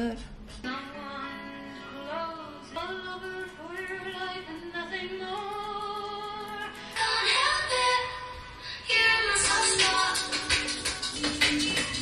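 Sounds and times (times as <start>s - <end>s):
background music: 0.6s - 12.0s.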